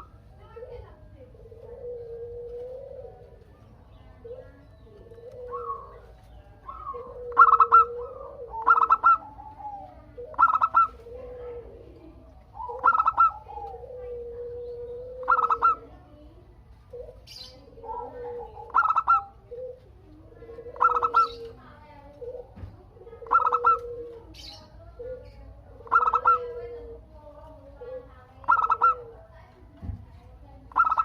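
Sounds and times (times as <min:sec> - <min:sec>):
dove cooing: 0:00.0 - 0:31.0.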